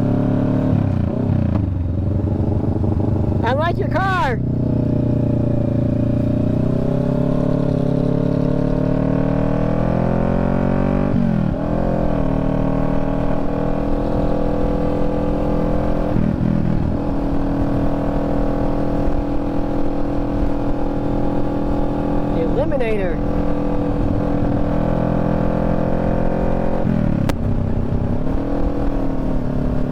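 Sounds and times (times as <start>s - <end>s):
motorcycle engine accelerating: 0.0s - 29.9s.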